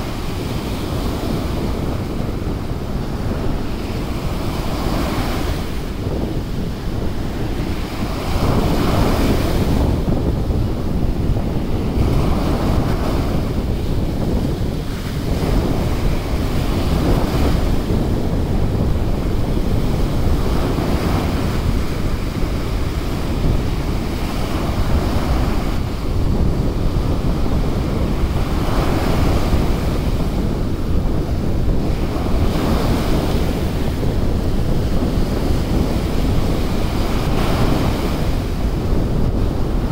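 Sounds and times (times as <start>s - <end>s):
surf waves breaking on sand: 0.0s - 39.9s
wind rumble on microphone: 0.0s - 39.9s.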